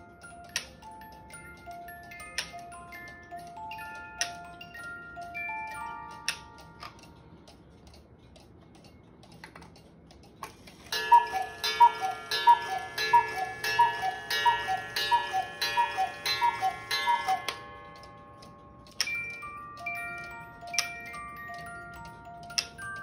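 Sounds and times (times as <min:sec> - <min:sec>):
cuckoo clock calling: 0:00.0 - 0:07.7, 0:10.4 - 0:23.0
clock ticking softly: 0:00.2 - 0:23.0.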